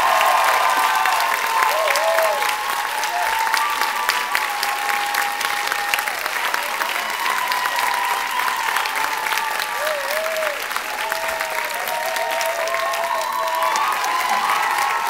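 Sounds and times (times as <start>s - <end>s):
audience clapping: 0.0s - 15.0s
crowd high calls: 0.0s - 15.0s.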